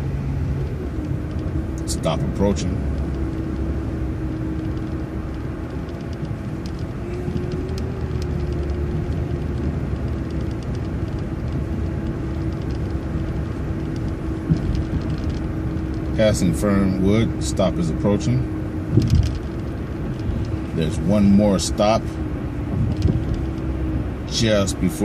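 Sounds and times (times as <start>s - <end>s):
bus engine and road rumble: 0.0s - 25.0s
constant whine: 0.0s - 25.0s.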